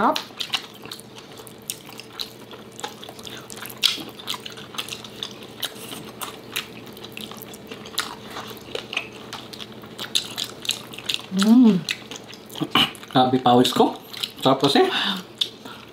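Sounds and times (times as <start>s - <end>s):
wet chewing and lip-smacking: 0.0s - 13.2s, 13.8s - 14.6s, 15.2s - 15.9s.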